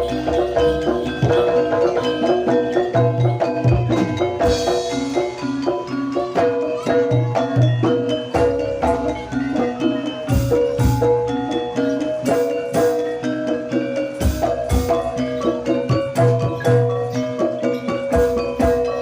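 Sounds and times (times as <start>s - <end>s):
gamelan mallet melody: 0.0s - 19.0s.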